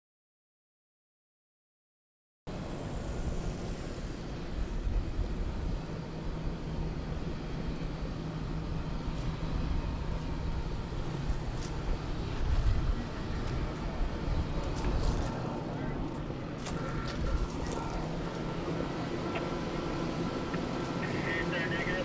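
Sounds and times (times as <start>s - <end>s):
fire engine drone: 2.5s - 22.0s.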